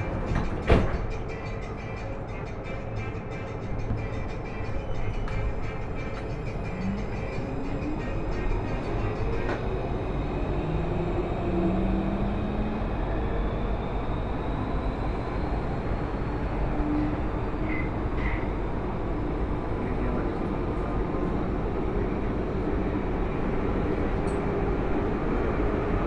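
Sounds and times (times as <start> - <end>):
wheels rumbling on rail: 0.0 - 26.0.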